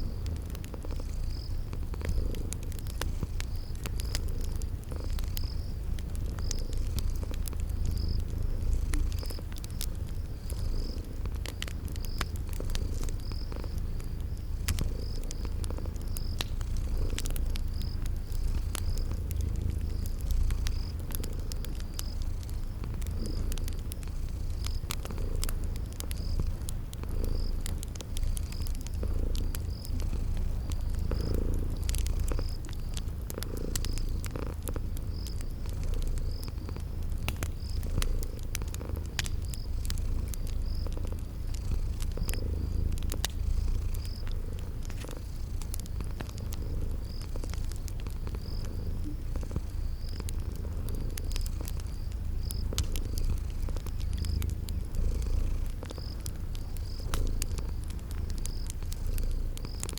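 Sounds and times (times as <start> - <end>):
cat purring: 0.0 - 59.9
crickets chirping: 0.0 - 59.9
wood fire crackling: 0.0 - 59.9.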